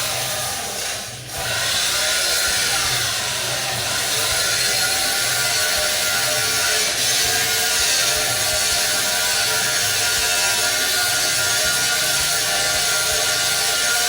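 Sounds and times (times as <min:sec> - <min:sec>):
machine running with rumble: 0:00.0 - 0:14.0.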